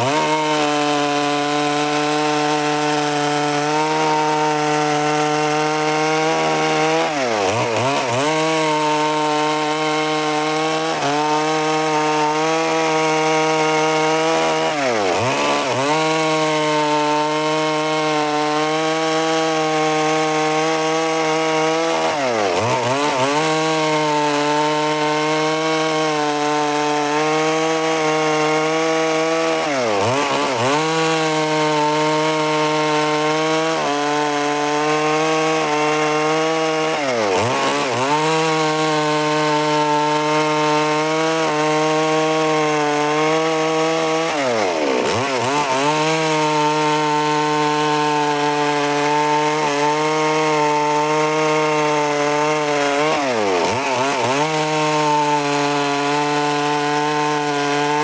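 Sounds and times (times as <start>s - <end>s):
chainsaw cutting timber: 0.0s - 58.0s.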